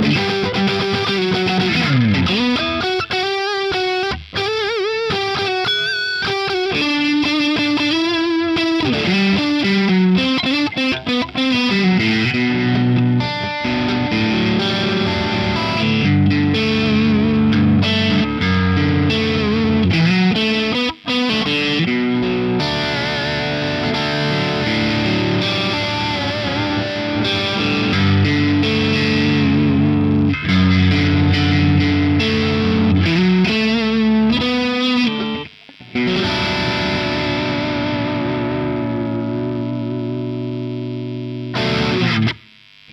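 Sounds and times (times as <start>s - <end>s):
distorted electric guitar: 0.0s - 42.9s.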